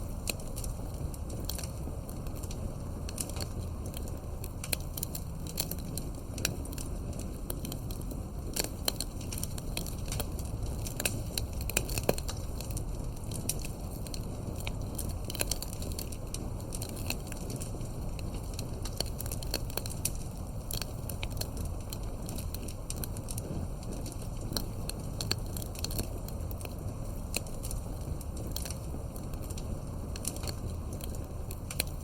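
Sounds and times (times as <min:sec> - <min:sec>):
campfire crackling and popping: 0:00.0 - 0:32.0
low fire rumble: 0:00.0 - 0:32.0.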